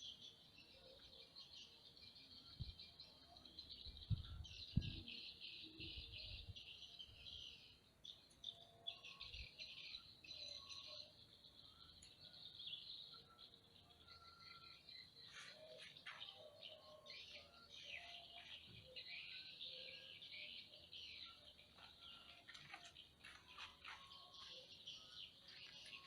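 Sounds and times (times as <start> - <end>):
wild birds chirping: 0.0 - 26.0.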